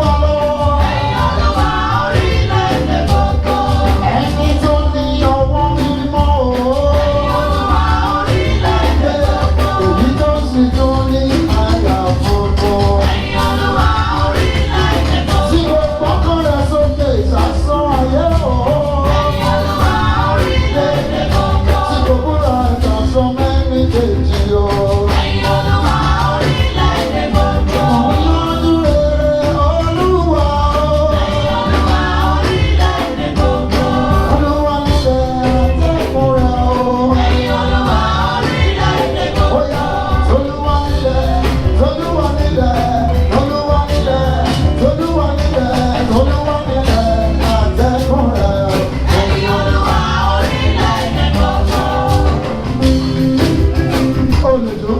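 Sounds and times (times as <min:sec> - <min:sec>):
gospel singer with band: 0:00.0 - 0:54.9.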